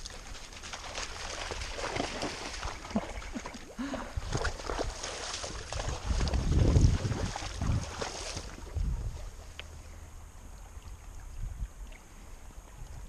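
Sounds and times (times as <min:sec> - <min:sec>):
horses splashing through water: 0:00.0 - 0:12.8.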